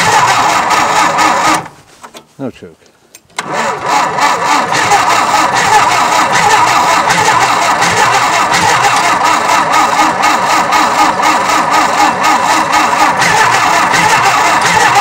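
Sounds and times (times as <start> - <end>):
tractor engine cranking slowly: 0.0 - 2.2, 3.3 - 15.0.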